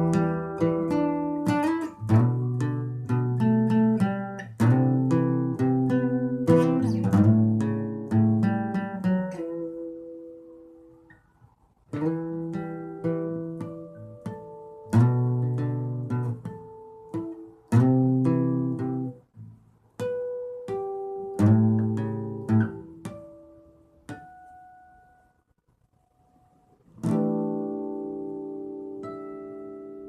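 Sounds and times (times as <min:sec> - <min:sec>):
acoustic guitar played slowly: 0:00.0 - 0:25.4, 0:26.2 - 0:30.0.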